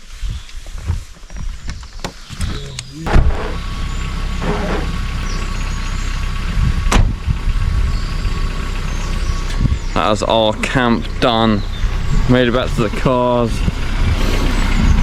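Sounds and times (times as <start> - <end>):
car engine running: 2.9 - 15.0.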